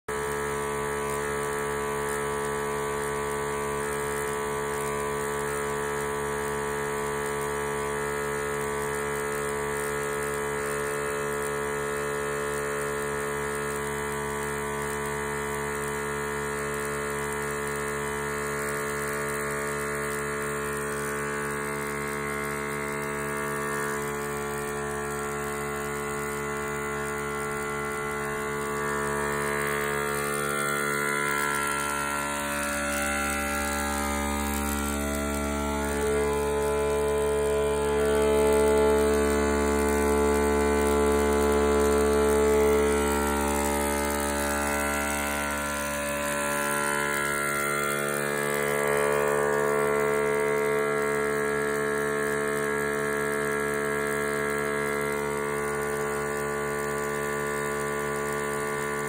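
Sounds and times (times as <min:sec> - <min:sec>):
beer tap machine grinding hum: 0:00.1 - 0:59.0.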